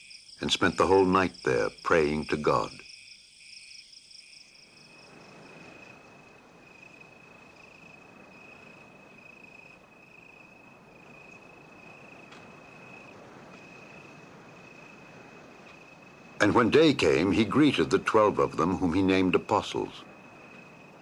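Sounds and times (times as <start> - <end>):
crickets chirring: 0.0 - 21.0
soft outdoor hiss: 0.0 - 21.0.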